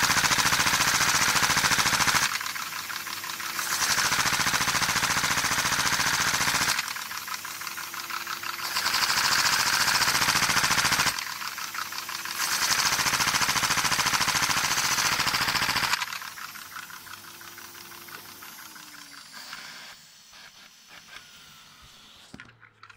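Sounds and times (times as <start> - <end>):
model engine mechanical clatter: 0.0 - 19.9, 22.3 - 22.9.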